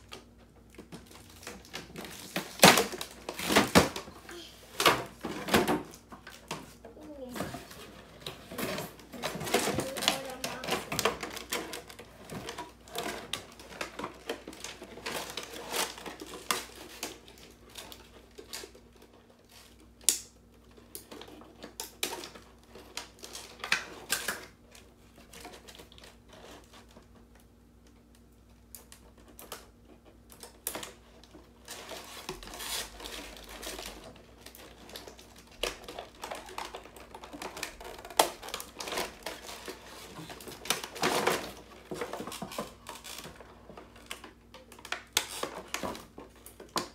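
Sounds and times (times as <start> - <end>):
plastic packaging crinkling: 0.0 - 27.3, 28.5 - 46.9.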